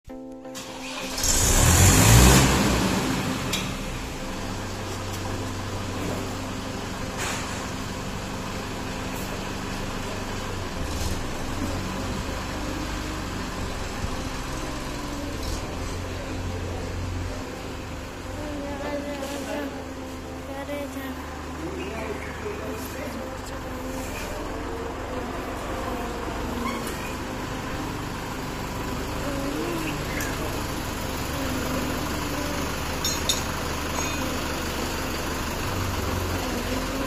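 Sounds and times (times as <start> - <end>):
diesel tractor engine running: 0.6 - 37.0.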